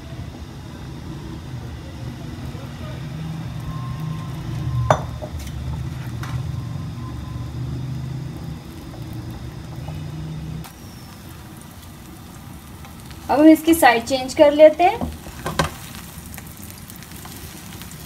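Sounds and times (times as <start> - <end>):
egg frying in oil: 0.1 - 18.0.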